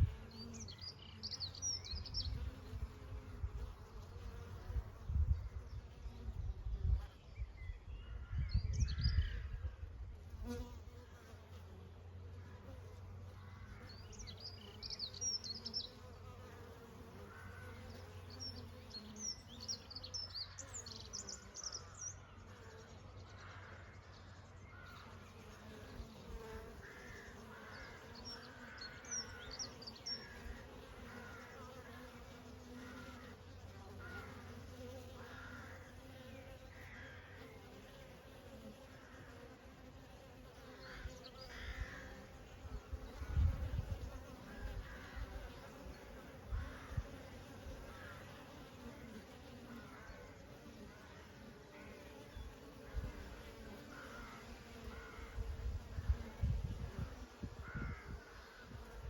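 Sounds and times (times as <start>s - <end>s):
bees buzzing: 0.0s - 6.7s, 10.2s - 23.2s, 24.8s - 59.0s.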